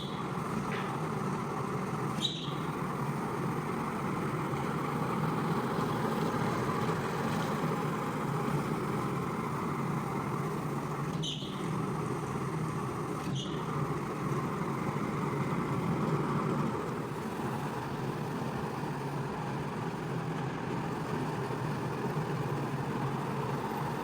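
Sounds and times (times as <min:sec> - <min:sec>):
carpet-cleaning machine running: 0:00.0 - 0:24.0.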